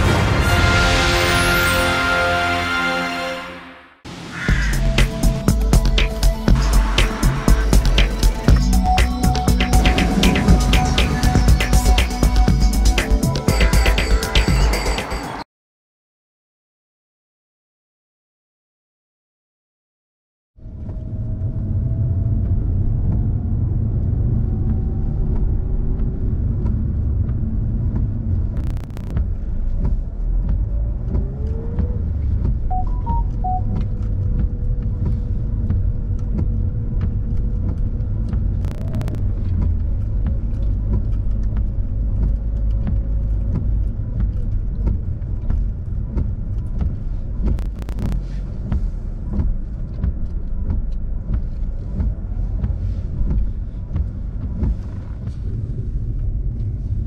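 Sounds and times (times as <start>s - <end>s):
car engine and road noise: 4.0s - 15.5s, 20.6s - 57.0s.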